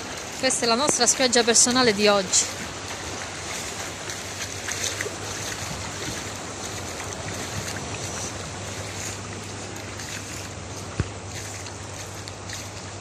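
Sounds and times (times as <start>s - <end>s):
small waves washing on shore: 0.0s - 13.0s.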